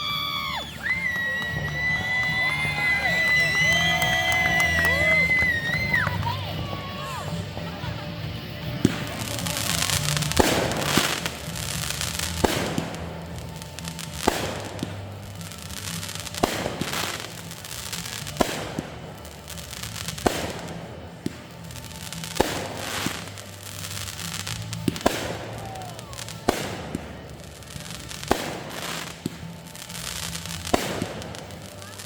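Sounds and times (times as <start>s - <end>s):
fireworks bursting: 0.0s - 32.0s
music playing: 0.0s - 32.0s.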